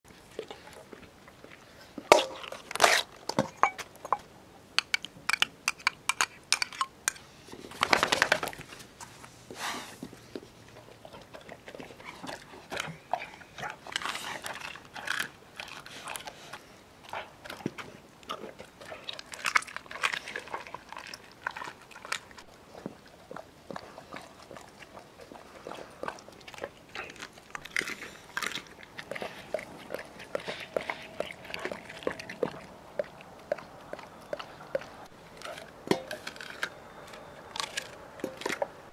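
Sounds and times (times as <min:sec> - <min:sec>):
dog crunching food in metal bowl: 0:00.2 - 0:04.2, 0:04.8 - 0:08.8, 0:10.7 - 0:38.8.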